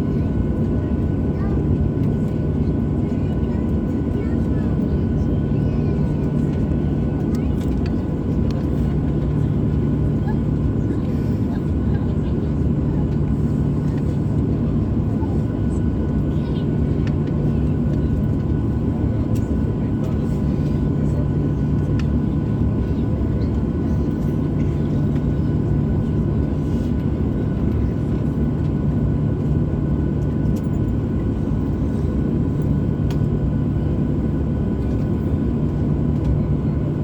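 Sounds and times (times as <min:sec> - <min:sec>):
airplane cabin engine roar: 0:00.0 - 0:37.0.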